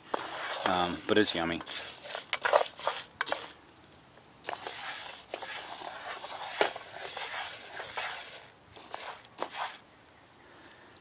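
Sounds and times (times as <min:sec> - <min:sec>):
oats rustling in a metal pan: 0:00.0 - 0:03.6, 0:04.5 - 0:09.8
wooden spoon stirring: 0:00.0 - 0:03.6, 0:04.5 - 0:09.8.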